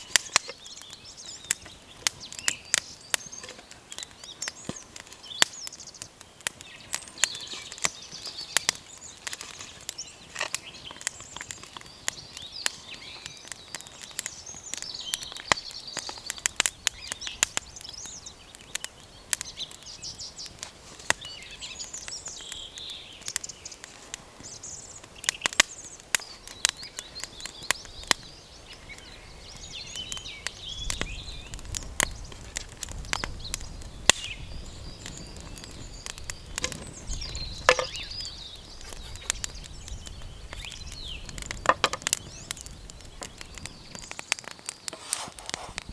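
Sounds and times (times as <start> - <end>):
songbirds chirping: 0.0 - 45.9
wood fire crackling: 0.0 - 45.9.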